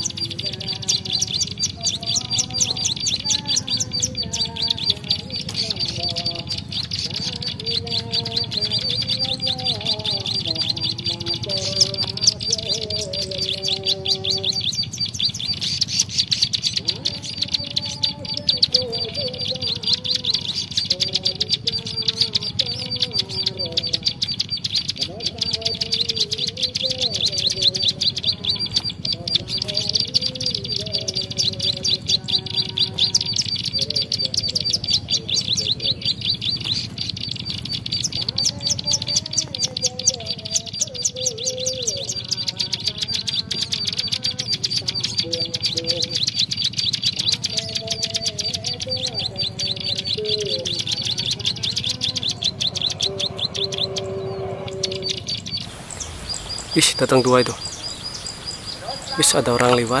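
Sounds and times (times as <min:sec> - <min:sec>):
low bird warbling: 0:00.0 - 1:00.0
songbird chirping rapidly: 0:00.0 - 1:00.0.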